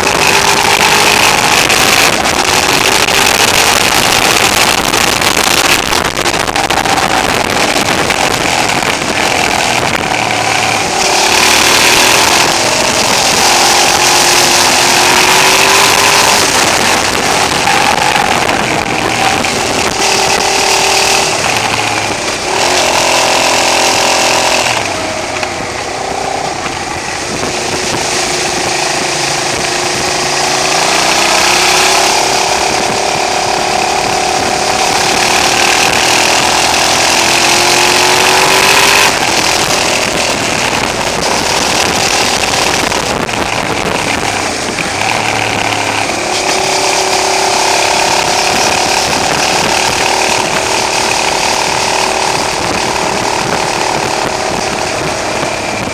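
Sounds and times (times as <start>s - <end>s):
motorcycle engine running: 0.0s - 55.9s
wind rush: 0.0s - 55.9s.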